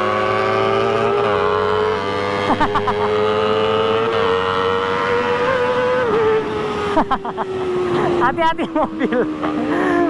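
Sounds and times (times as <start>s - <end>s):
motorcycle engines at high revs: 0.0s - 10.0s.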